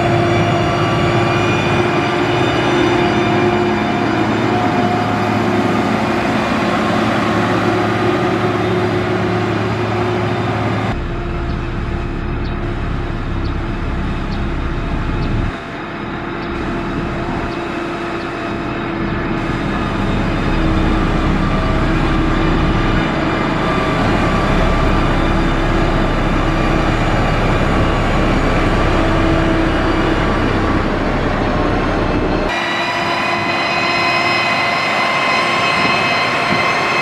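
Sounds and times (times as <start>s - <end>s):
diesel engine droning: 0.0s - 37.0s.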